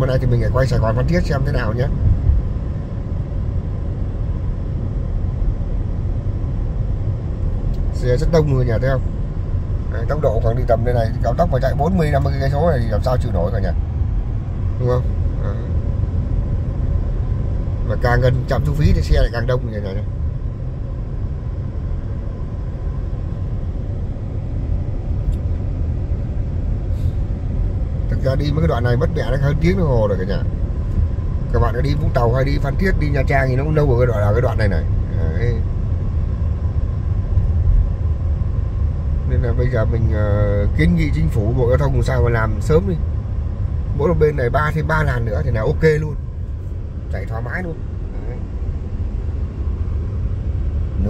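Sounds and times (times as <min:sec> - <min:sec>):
car cabin road rumble: 0:00.0 - 0:51.0.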